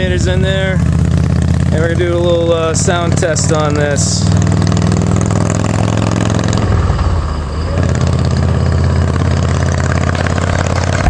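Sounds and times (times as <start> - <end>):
throaty car engine idling: 0.0 - 11.0.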